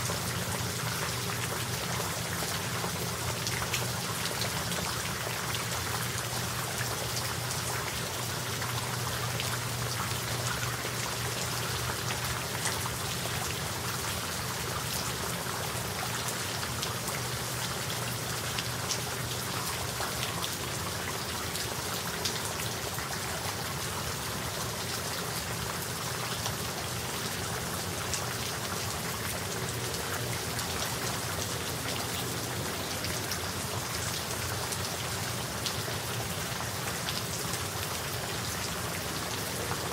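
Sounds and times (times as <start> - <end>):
raindrops pattering: 0.0 - 39.9.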